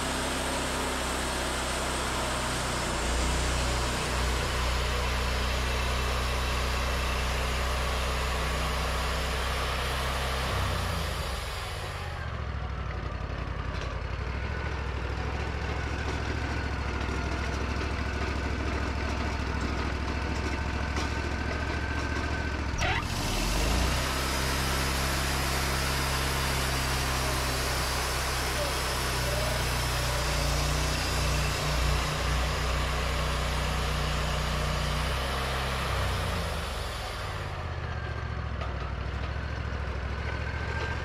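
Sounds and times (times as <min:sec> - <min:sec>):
sawmill engine running: 0:00.0 - 0:41.0.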